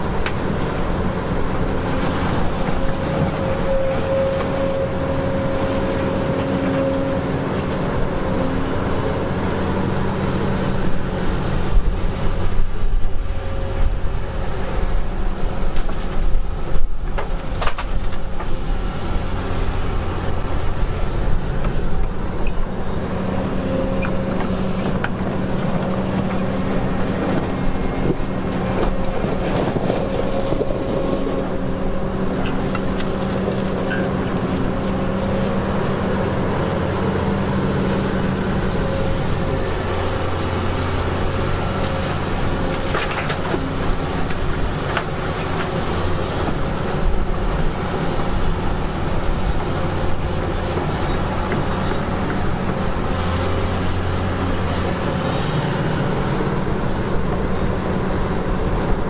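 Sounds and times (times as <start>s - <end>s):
diesel earthmoving machinery running: 0.0s - 59.0s.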